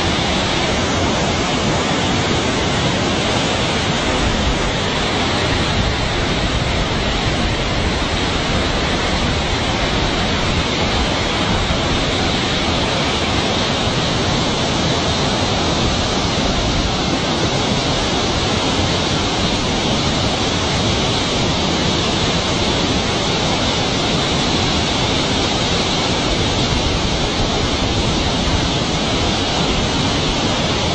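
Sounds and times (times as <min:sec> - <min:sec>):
fast water rushing down a channel: 0:00.0 - 0:30.9.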